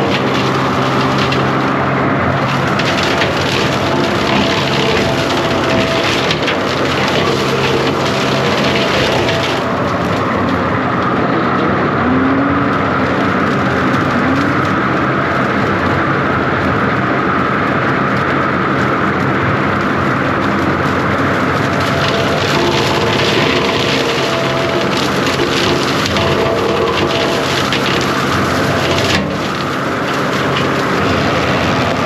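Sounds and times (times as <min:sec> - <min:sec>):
diesel engine running hard: 0:00.0 - 0:32.0
hydraulic whine: 0:00.0 - 0:32.0
splintering wood crackle: 0:00.0 - 0:32.0.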